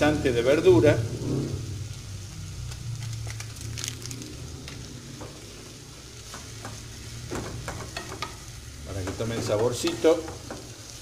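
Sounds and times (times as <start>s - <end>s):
onions sizzling in a pot: 0.0s - 11.0s.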